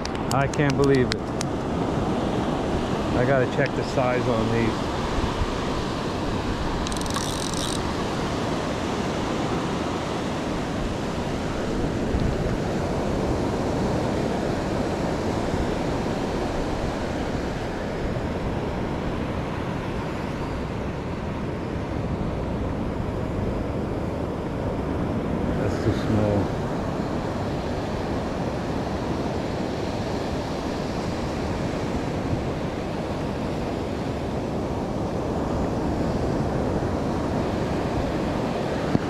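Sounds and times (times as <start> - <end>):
surf washing up on beach: 0.0 - 39.0.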